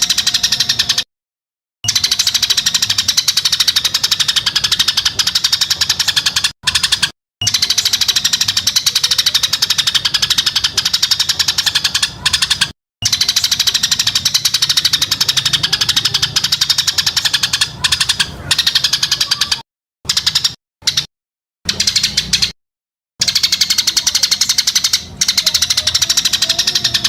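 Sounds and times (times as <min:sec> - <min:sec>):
songbird rattling chatter: 0:00.0 - 0:01.1, 0:01.8 - 0:21.1, 0:21.7 - 0:22.6, 0:23.2 - 0:27.0.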